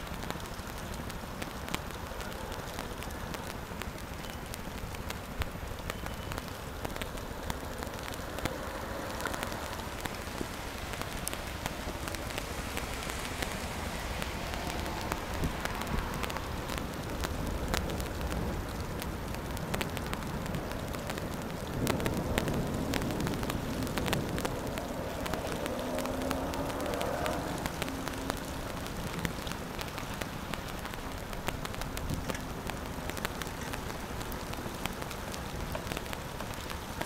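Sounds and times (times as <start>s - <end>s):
raindrops ticking close by: 0.0s - 37.0s
steady rain falling: 0.0s - 37.0s.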